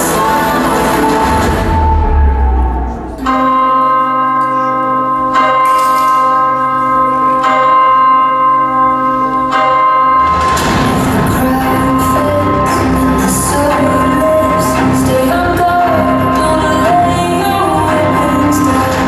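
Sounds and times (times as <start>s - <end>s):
music: 0.0s - 19.0s
deep bell ringing: 1.0s - 19.0s.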